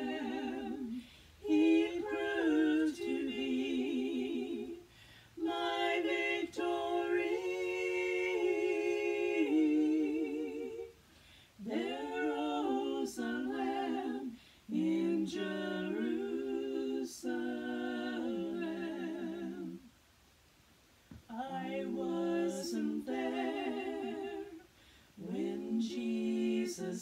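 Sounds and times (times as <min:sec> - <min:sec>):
women singing in harmony: 0:00.0 - 0:19.9, 0:21.2 - 0:27.0.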